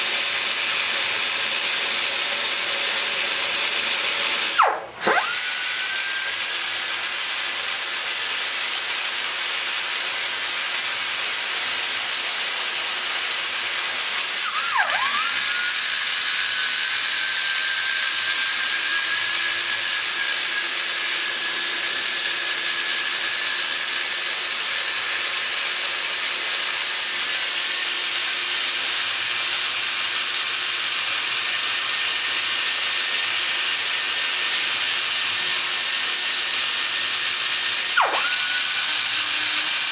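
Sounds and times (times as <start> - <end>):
die grinder whining: 0.0 - 39.9.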